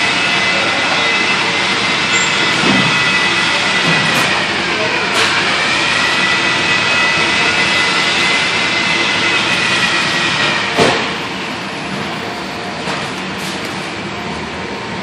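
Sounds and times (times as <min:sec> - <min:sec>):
steady mechanical noise: 0:00.0 - 0:15.0.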